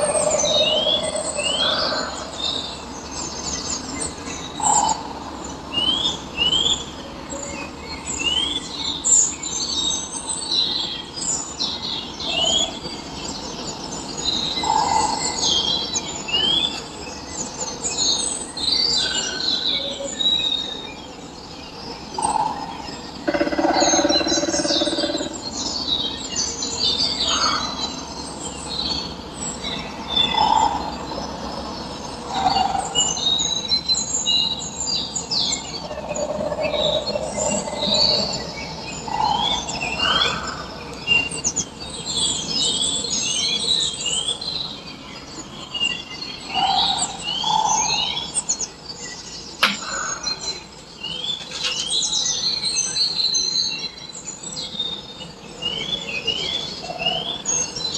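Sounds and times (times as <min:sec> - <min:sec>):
many birds chirping: 0:00.0 - 0:57.9.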